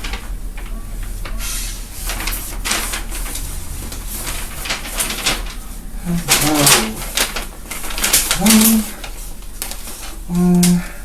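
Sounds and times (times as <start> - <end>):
paper and fabric rustling: 0.0 - 10.8.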